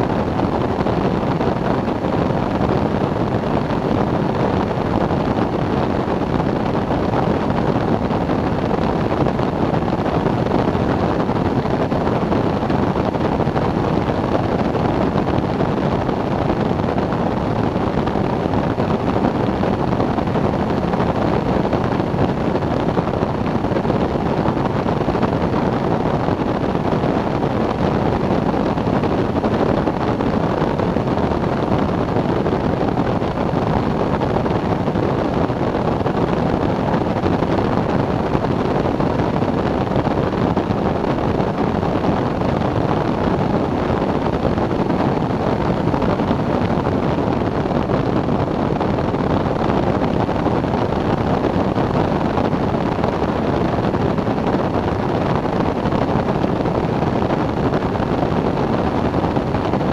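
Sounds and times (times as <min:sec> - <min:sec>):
airflow rushing on microphone: 0:00.0 - 0:59.9.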